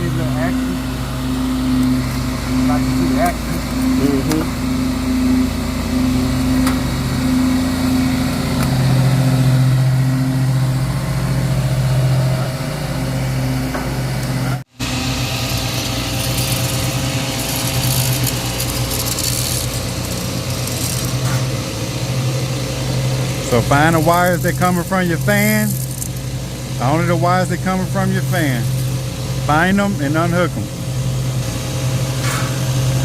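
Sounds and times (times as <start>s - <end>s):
small engines running: 0.0s - 33.0s.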